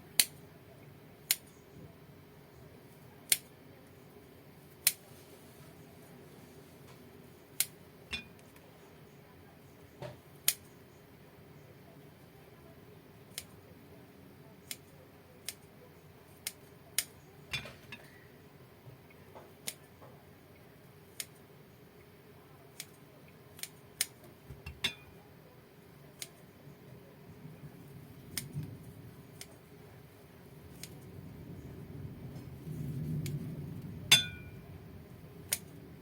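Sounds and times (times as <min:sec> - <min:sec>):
faint background hum: 0:00.0 - 0:36.0.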